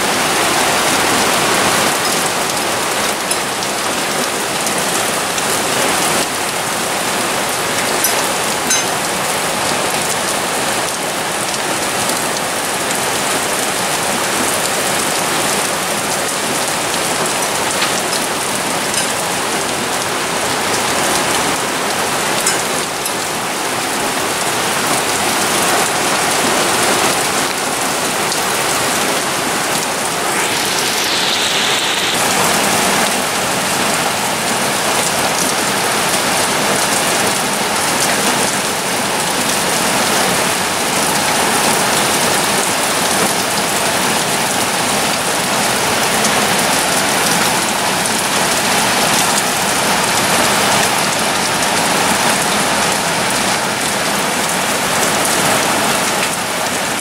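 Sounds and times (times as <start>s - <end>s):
heavy rain on decking and lawn: 0.0s - 57.0s.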